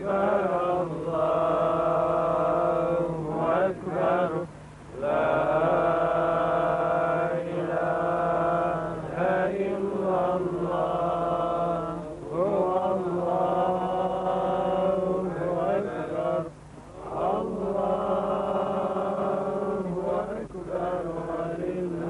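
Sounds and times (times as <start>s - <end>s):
man chanting recitation: 0.0s - 22.0s.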